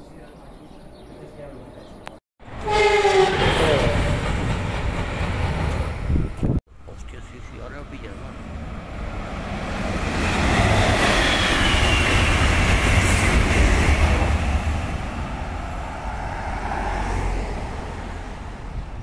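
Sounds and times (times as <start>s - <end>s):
passenger train passing: 2.4s - 19.0s.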